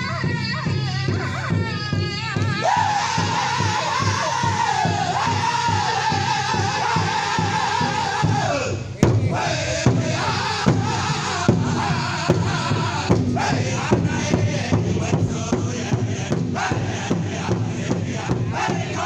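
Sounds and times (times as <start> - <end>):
bass drum steady beat: 0.0 - 19.0
men singing: 0.0 - 19.0.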